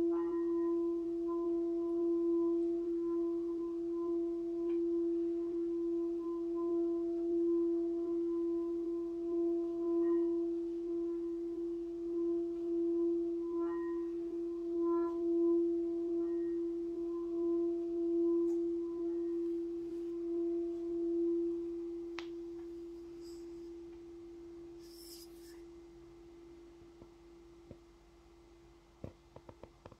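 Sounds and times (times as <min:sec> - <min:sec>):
singing bowl humming: 0:00.0 - 0:27.6.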